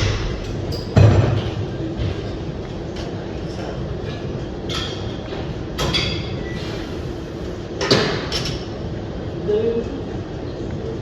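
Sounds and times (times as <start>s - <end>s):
gym background noise: 0.0s - 11.0s.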